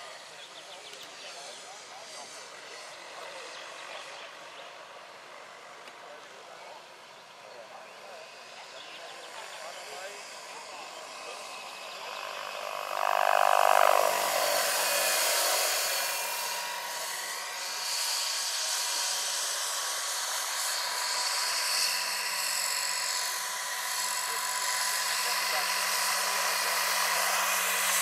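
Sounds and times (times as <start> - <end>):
model helicopter whine: 0.0 - 28.0.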